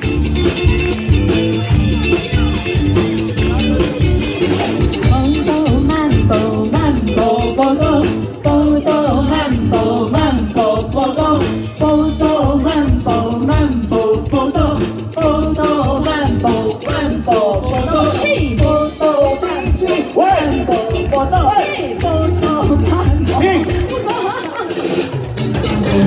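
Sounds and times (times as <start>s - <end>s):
live band playing mambo song: 0.0s - 26.0s.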